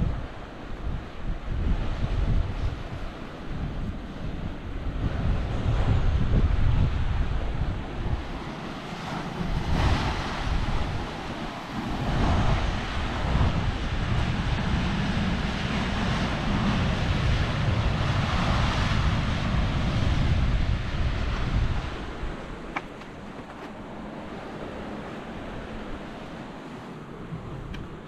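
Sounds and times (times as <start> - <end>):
ocean surf washing ashore: 0.0 - 28.0
wind buffeting microphone: 0.0 - 28.0.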